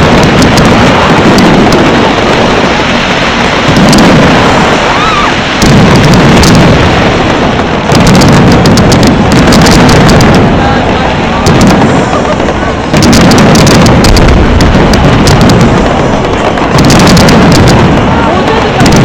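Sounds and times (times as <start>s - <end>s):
fireworks booming: 0.0s - 19.0s
fireworks crackles: 0.0s - 19.0s.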